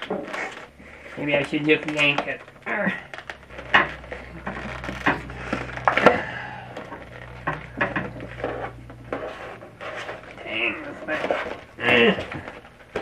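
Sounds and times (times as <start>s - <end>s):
plastic packaging crackling: 0.0s - 13.0s.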